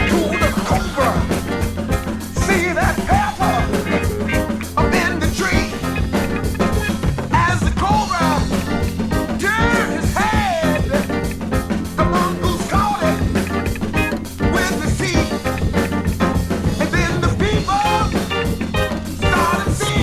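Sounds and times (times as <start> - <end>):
drum beat: 0.0 - 20.0
funk bass line: 0.0 - 20.0.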